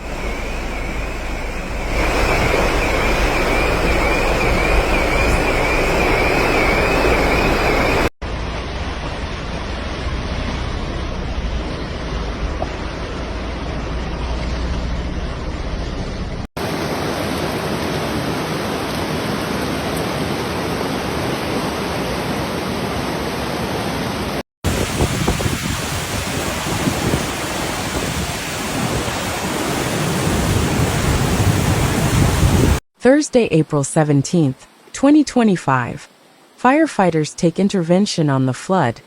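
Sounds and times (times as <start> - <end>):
floodwater rushing: 0.0 - 32.8.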